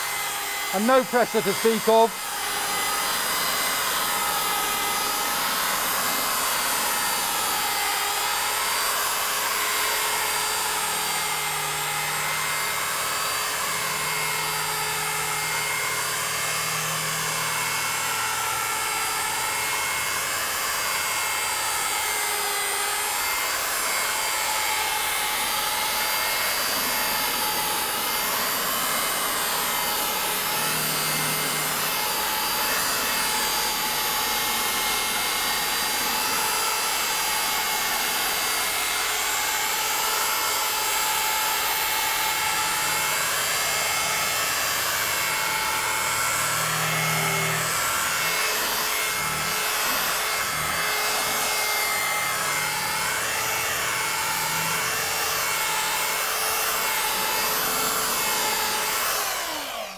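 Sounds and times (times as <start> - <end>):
rotary polisher whine: 0.0 - 59.9.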